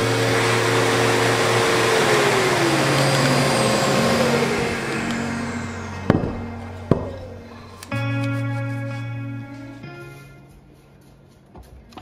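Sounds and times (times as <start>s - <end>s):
machine motor winding down: 0.0s - 9.8s.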